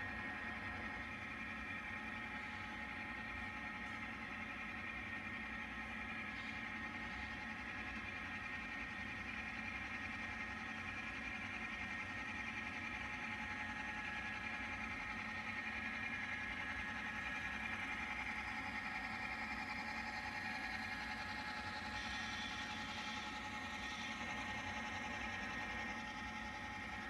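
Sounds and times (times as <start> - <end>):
model train hum and whine: 0.0 - 27.0.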